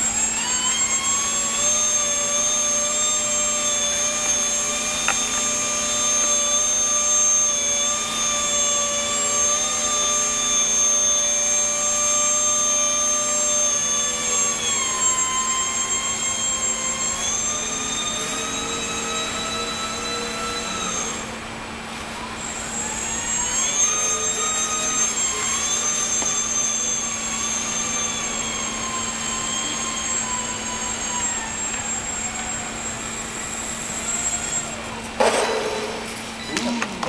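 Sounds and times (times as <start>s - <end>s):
model plane motor whining: 0.0s - 37.0s.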